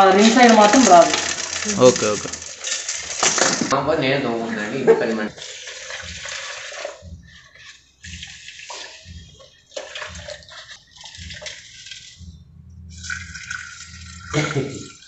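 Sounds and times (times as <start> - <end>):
water pouring through a funnel: 0.0 - 15.0.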